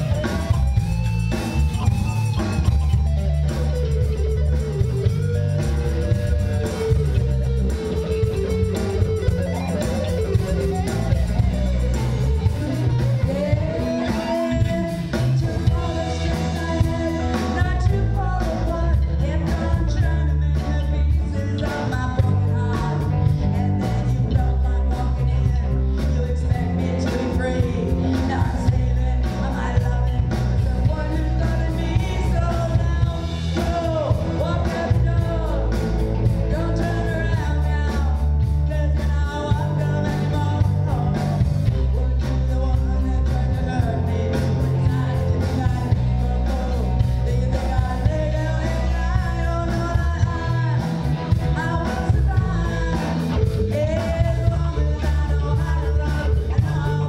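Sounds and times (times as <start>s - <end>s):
bass guitar: 0.0s - 57.0s
drum kit steady beat: 0.0s - 57.0s
electric guitar: 0.0s - 57.0s
woman singing: 0.0s - 57.0s.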